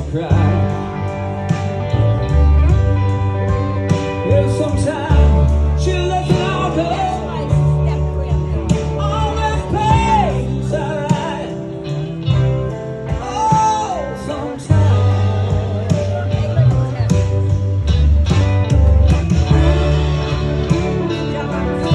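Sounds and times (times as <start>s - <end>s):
deep bass notes: 0.0s - 21.9s
electric guitar: 0.0s - 21.9s.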